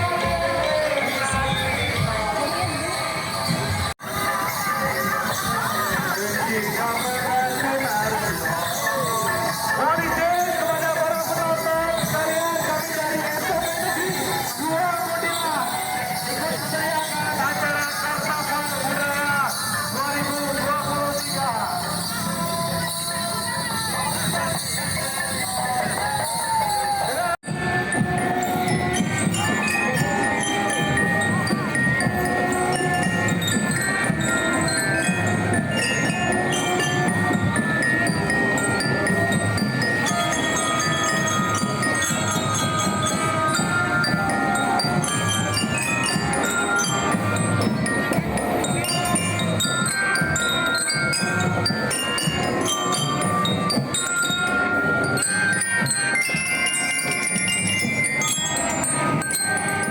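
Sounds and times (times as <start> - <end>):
bell-like tuned metal percussion melody: 0.0 - 59.9.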